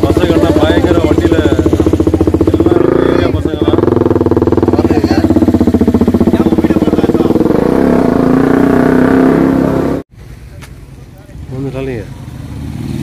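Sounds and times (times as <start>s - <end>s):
motorcycle engine running: 0.0s - 10.1s, 11.2s - 13.0s.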